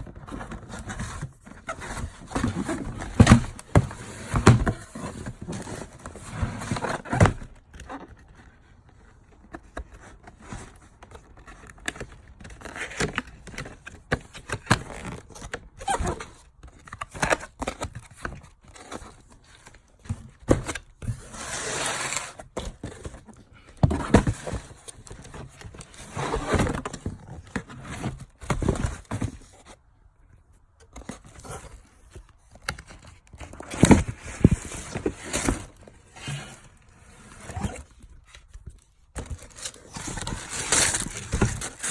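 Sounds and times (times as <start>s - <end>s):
cardboard scraping: 0.2s - 8.3s, 12.5s - 29.8s, 30.9s - 41.9s.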